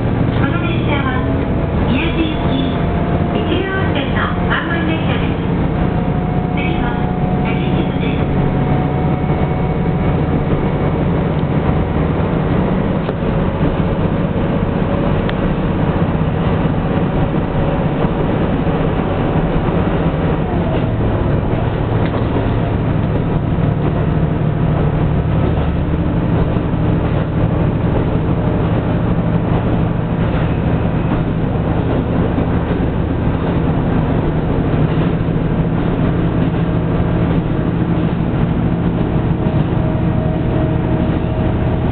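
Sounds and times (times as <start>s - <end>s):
diesel engine drone: 0.0s - 41.9s
railcar running rumble: 0.0s - 41.9s.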